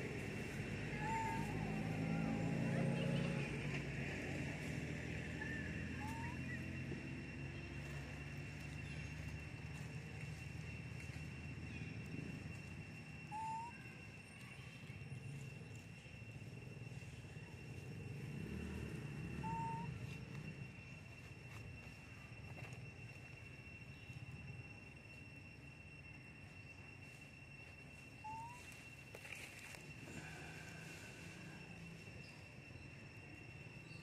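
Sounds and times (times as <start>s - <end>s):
high-pitched drone: 0.0s - 34.0s
low hum: 0.0s - 34.0s.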